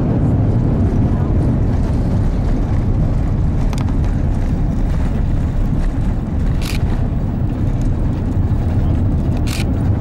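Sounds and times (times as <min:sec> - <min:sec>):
aircraft cabin rumble: 0:00.0 - 0:10.0.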